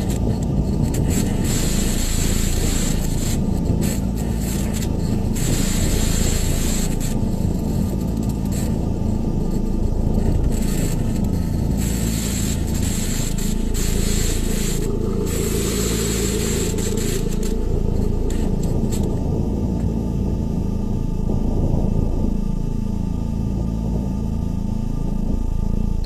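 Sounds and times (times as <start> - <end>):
low grinding scraping noise: 0.0 - 22.3.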